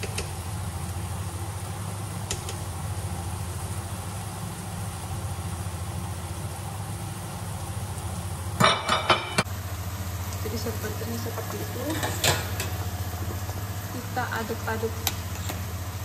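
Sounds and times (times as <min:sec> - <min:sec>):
extractor fan humming: 0:00.0 - 0:16.0.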